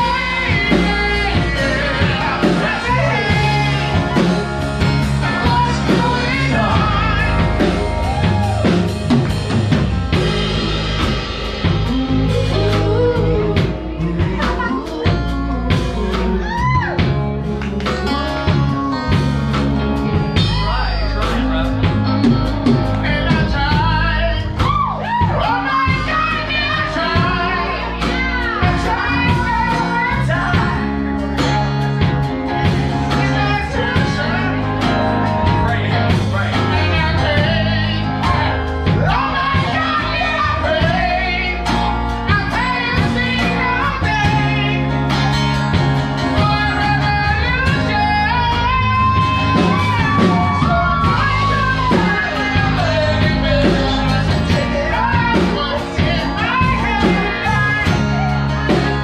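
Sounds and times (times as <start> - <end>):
live rock band playing: 0.0 - 59.0
singer holding long notes: 0.0 - 59.0.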